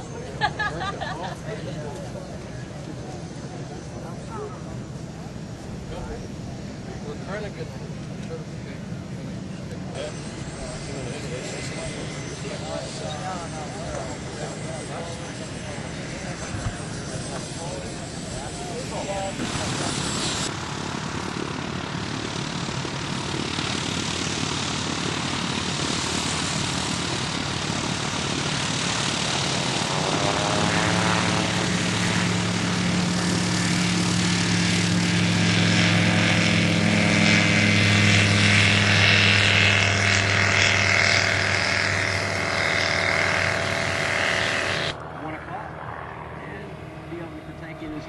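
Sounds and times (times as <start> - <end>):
propeller aircraft engine drone: 0.0 - 48.0.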